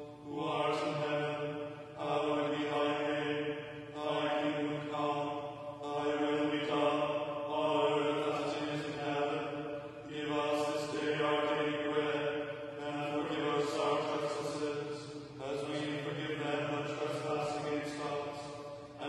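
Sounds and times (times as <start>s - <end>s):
man chanting on one note: 0.0s - 19.0s.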